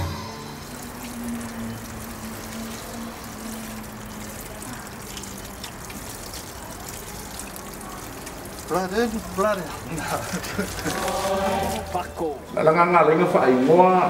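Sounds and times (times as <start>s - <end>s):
hose water splashing on skin: 0.5s - 12.5s.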